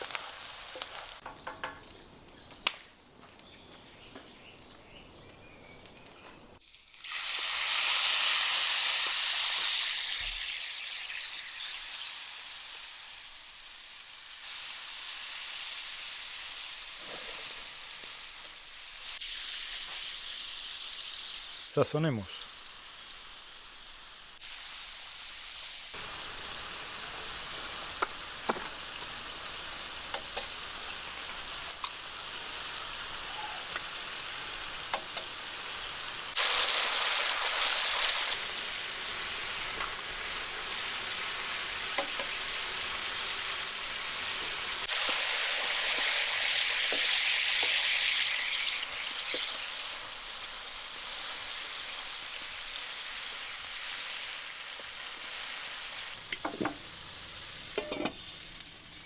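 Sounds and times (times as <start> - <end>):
food sizzling in frying: 0.0 - 4.0, 5.6 - 59.0.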